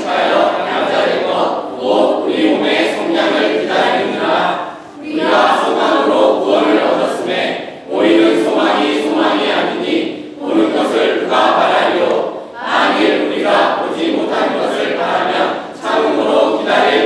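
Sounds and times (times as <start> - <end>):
group reciting in unison: 0.0 - 17.0.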